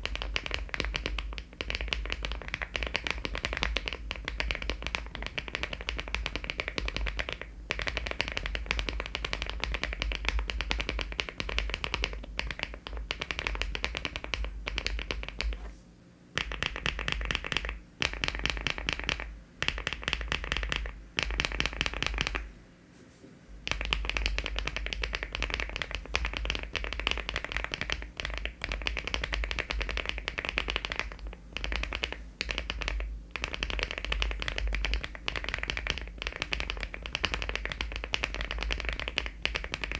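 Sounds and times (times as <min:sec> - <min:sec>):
fast typing on mechanical keyboard: 0:00.0 - 0:15.6, 0:16.4 - 0:22.4, 0:23.6 - 0:39.9.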